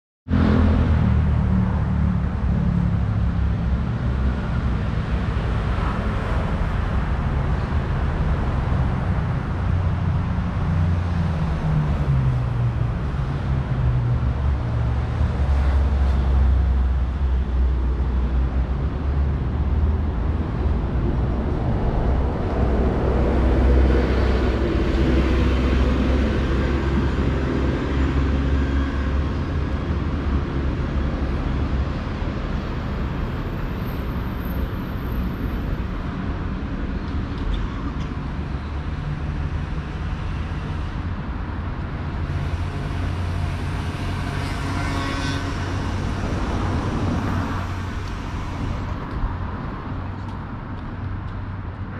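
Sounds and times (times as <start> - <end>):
cars passing: 0.3 - 51.9.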